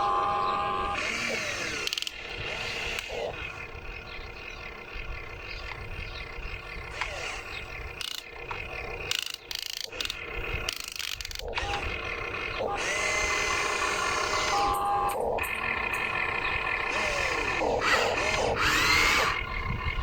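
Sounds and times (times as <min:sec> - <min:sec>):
small electric motors whirring: 0:00.0 - 0:20.0.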